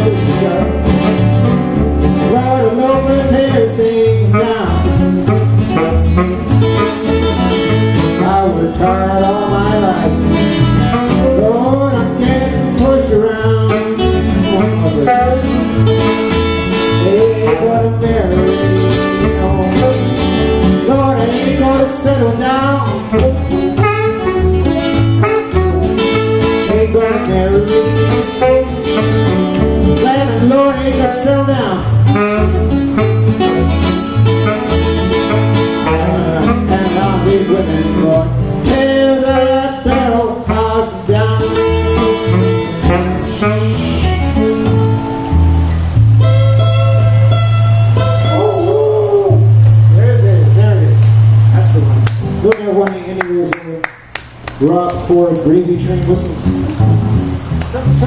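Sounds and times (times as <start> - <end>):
acoustic guitars strumming: 0.0 - 58.0
saxophone lead line: 0.0 - 58.0.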